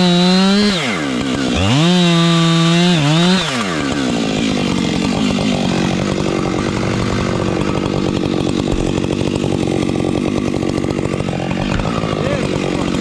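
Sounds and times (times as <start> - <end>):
chainsaw running at high revs: 0.0 - 13.0.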